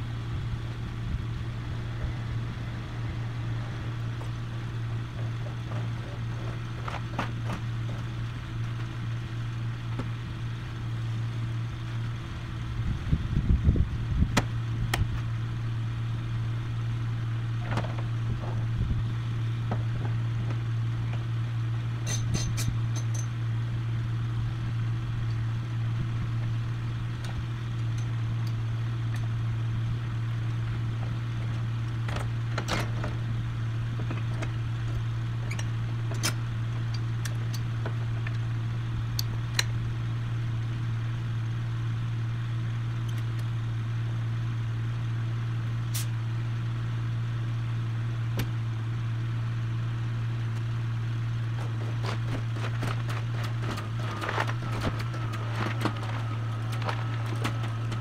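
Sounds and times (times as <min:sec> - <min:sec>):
engine running low hum: 0:00.0 - 0:58.0.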